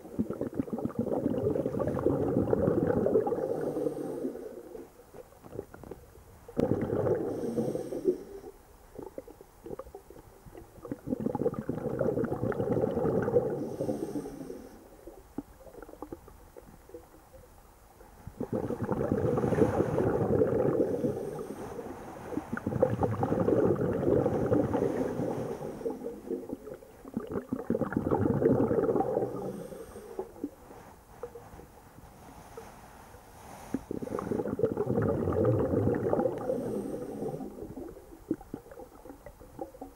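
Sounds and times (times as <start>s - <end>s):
exhaled bubbles underwater: 0.0s - 17.5s, 18.3s - 30.6s, 33.8s - 39.9s.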